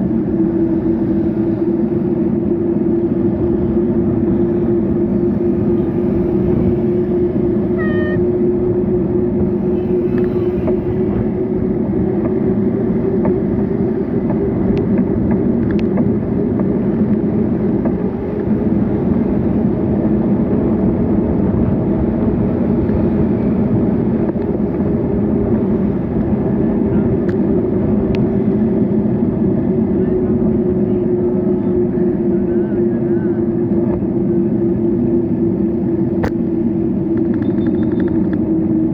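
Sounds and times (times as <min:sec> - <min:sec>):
engine hum: 0:00.0 - 0:38.9
rushing wind: 0:00.0 - 0:38.9
traffic noise: 0:00.0 - 0:38.9.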